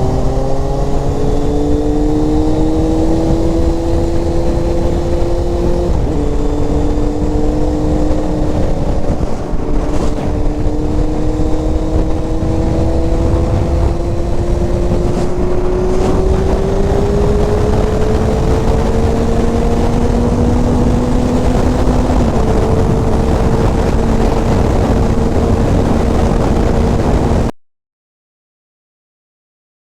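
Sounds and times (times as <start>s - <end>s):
sport bike engine pulling hard: 0.0s - 27.5s
wind noise: 0.0s - 27.5s.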